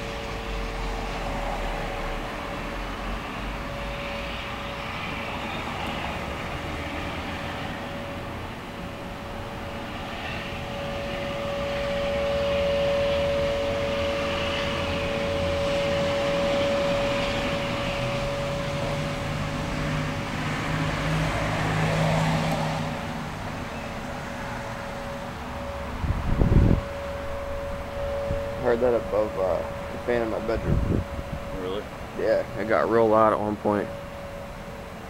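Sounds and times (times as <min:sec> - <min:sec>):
broad rushing wash: 0:00.0 - 0:35.0
loud drone in the sky: 0:00.0 - 0:35.0.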